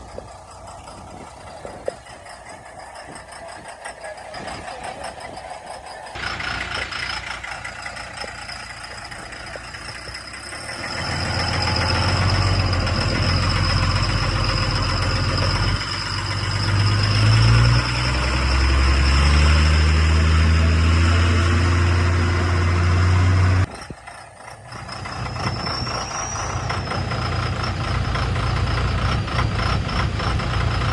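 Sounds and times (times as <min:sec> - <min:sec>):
steady high whine: 0:00.0 - 0:30.8
truck engine revving: 0:00.0 - 0:30.9.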